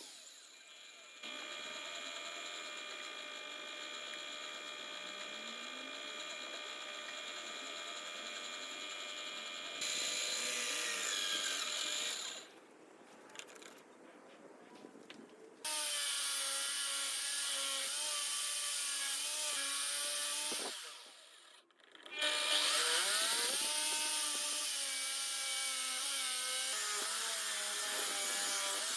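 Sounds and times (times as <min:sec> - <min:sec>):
electric drill motor whining: 0:00.0 - 0:12.5, 0:15.7 - 0:28.9.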